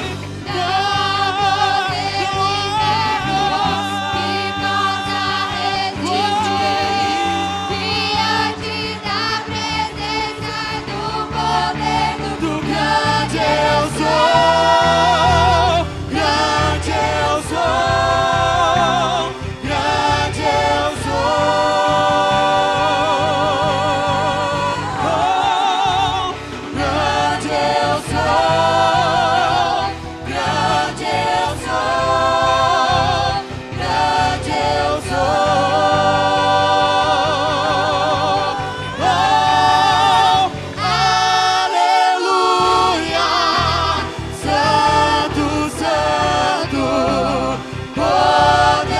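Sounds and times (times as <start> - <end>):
choir singing gospel song: 0.0 - 48.9
instrumental backing: 0.0 - 48.9.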